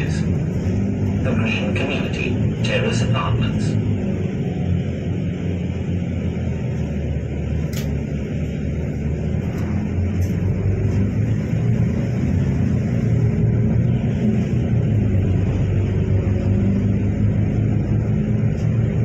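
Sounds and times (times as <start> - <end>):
bus engine and road noise: 0.0 - 19.0.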